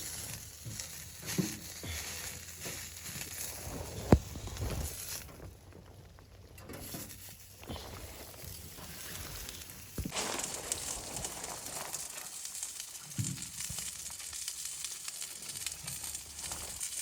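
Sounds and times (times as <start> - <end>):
light rustling and crackling: 0.0 - 17.0.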